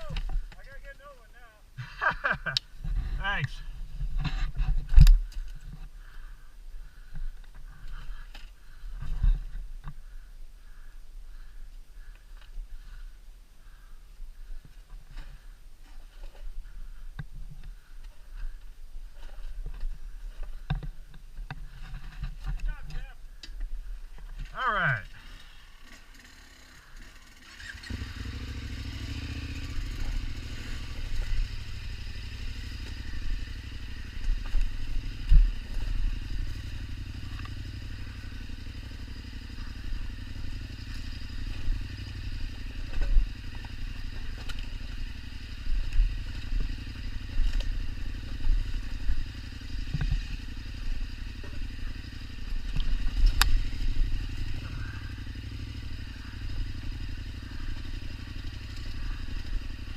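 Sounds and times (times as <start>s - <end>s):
motorcycle engine running: 0.0s - 1.0s, 1.8s - 59.9s.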